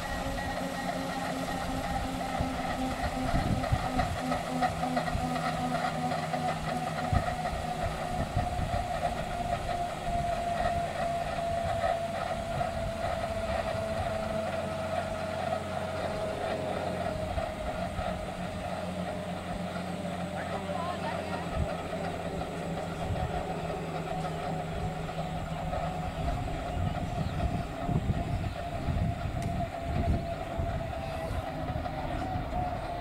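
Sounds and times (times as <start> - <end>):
helicopter rotors coasting: 0.0 - 33.0
turbine whine winding down: 0.0 - 33.0.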